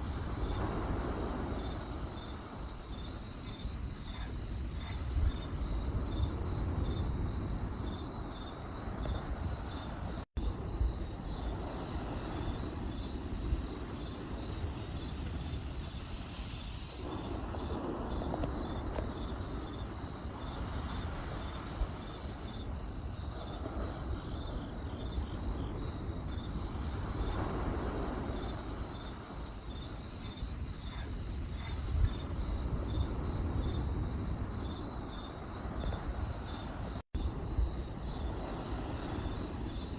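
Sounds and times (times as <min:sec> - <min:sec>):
crackling campfire: 0:00.0 - 0:39.9
crickets chirping: 0:00.0 - 0:39.9.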